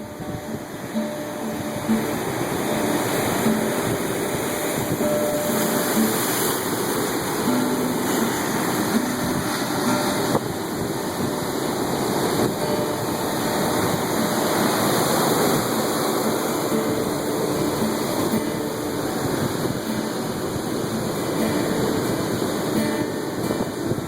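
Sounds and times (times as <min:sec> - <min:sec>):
surf washing on shore: 0:00.0 - 0:24.0.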